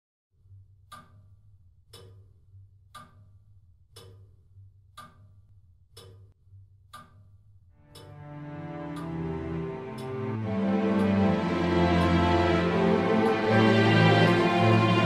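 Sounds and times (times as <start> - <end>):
clock ticking: 0.4 - 15.0.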